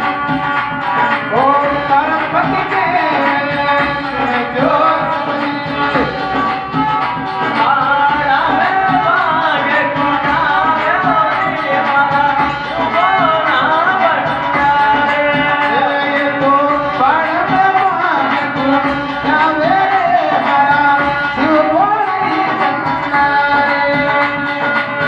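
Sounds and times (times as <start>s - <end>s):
drum beats: 0.0s - 25.0s
held accompaniment tones: 0.0s - 25.0s
man singing: 0.0s - 25.0s.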